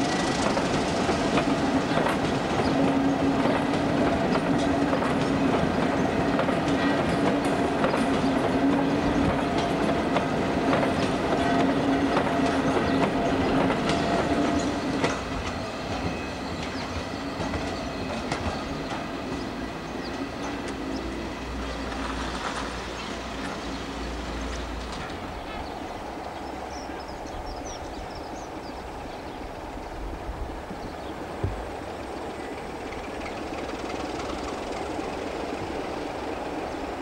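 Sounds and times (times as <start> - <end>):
train hum: 0.0 - 37.0
train wheels clicking over rail joints: 0.0 - 37.0.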